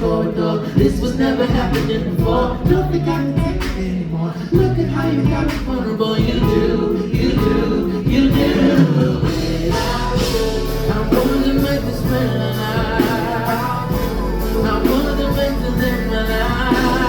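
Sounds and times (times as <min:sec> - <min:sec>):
live soul band playing: 0:00.0 - 0:17.0
person singing: 0:00.0 - 0:17.0.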